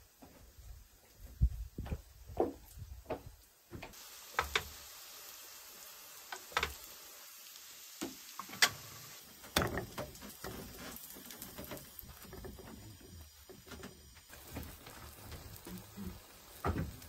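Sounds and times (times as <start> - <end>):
pancakes sizzling in oil: 2.7 - 17.0.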